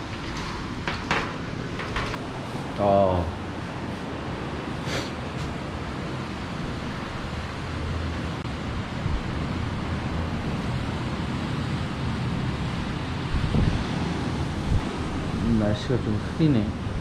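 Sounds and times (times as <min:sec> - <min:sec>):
ocean surf: 0:00.0 - 0:17.0
sea wind: 0:00.0 - 0:17.0
wind buffeting microphone: 0:00.0 - 0:17.0.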